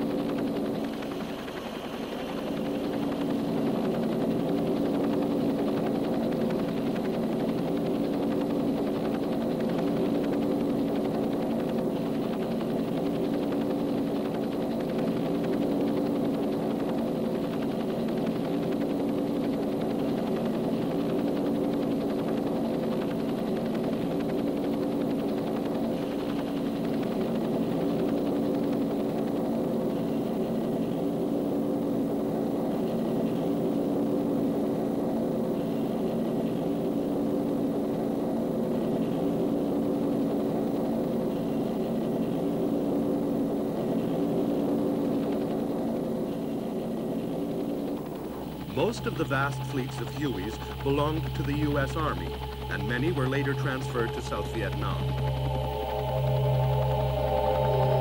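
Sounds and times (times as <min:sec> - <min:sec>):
helicopter turbine and rotor drone: 0:00.0 - 0:58.0.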